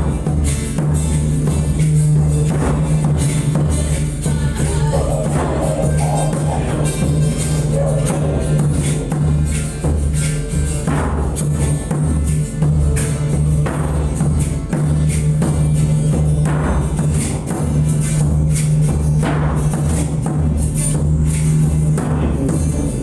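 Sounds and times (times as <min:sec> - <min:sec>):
didgeridoo drone: 0:00.0 - 0:23.0
drum strikes: 0:00.0 - 0:23.0
jingling percussion: 0:00.0 - 0:23.0.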